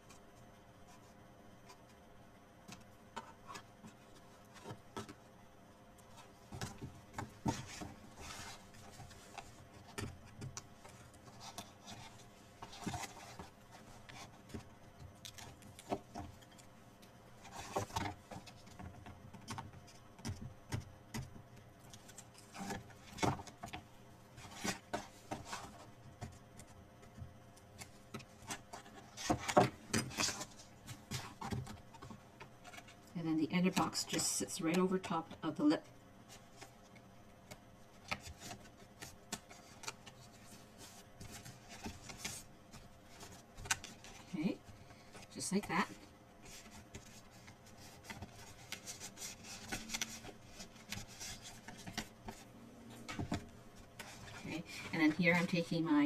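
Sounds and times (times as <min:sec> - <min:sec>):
cardstock rustling and scraping: 0:06.1 - 0:16.7, 0:17.4 - 0:21.3, 0:21.9 - 0:27.2, 0:27.8 - 0:36.9, 0:37.9 - 0:56.0.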